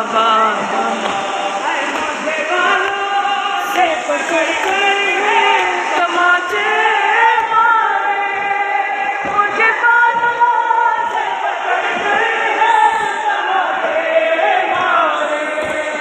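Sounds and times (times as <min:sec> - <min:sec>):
men chanting a lament in unison: 0:00.0 - 0:16.0.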